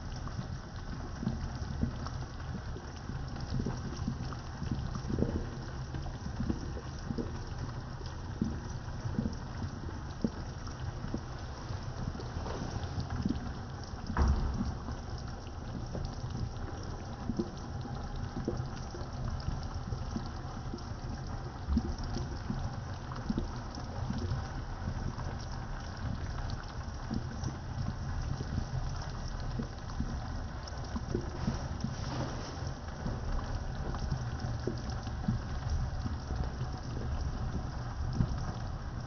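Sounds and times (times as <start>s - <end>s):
liquid bubbling in a pot: 0.0s - 39.0s.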